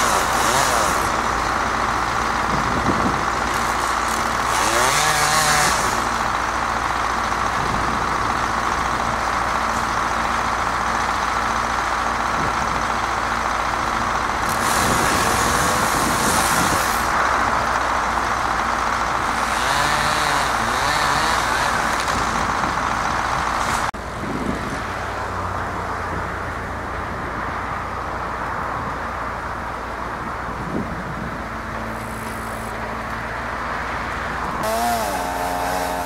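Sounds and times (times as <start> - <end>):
aerial lift engine running: 0.0 - 36.0.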